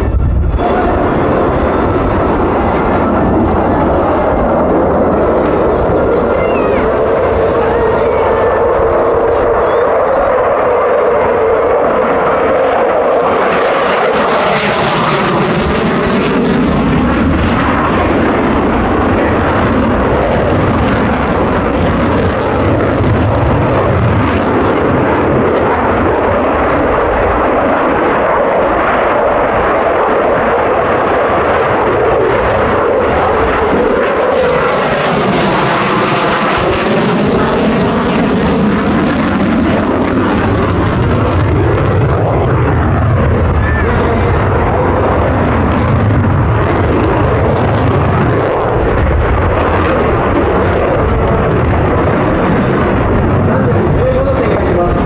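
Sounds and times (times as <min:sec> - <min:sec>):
fighter jets flying: 0:00.0 - 0:55.0.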